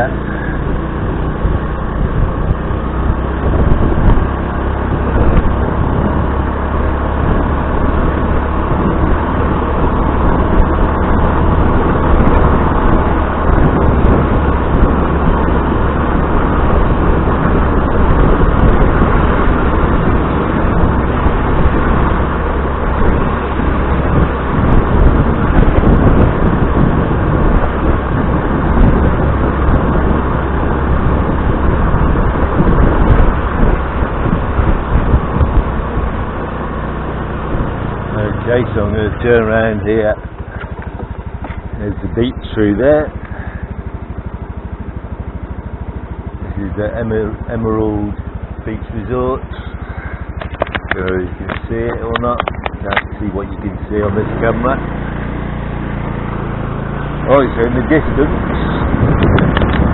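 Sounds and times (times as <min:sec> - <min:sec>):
passing traffic: 0:00.0 - 0:59.9
scooter engine and road noise: 0:00.0 - 0:59.9.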